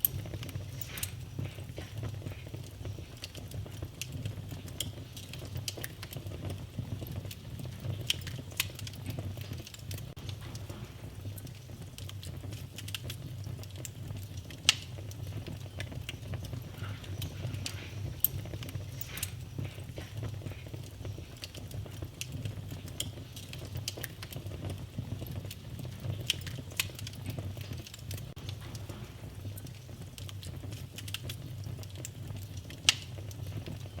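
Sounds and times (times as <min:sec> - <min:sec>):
fire rumbling and crackling: 0:00.0 - 0:34.0
fire sharp pops: 0:00.0 - 0:34.0.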